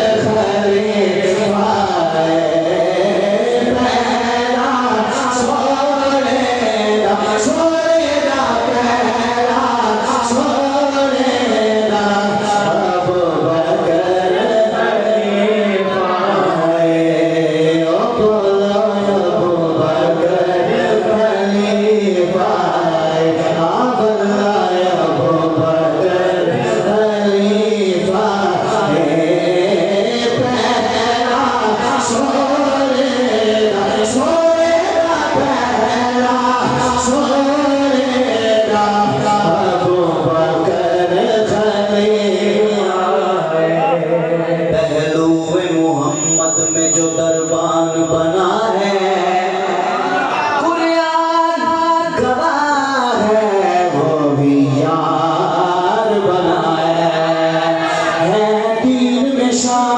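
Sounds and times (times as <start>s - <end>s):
man singing devotional chant: 0.0s - 59.9s.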